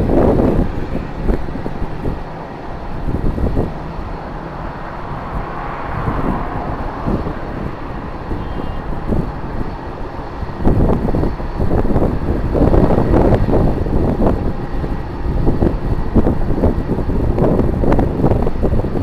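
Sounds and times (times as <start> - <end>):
jet engines running: 0.0 - 19.0
wind buffeting microphone: 0.0 - 19.0.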